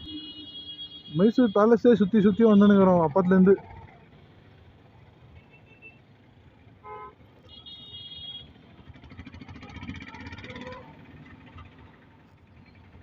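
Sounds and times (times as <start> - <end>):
passing vehicle engines: 1.2 - 7.6, 8.3 - 13.0.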